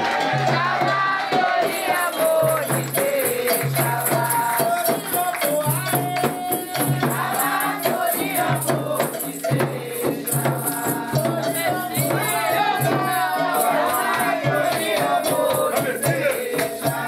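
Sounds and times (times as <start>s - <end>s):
rattle keeping a beat: 0.0s - 17.0s
steady percussion: 0.0s - 17.0s
voices singing: 0.0s - 17.0s.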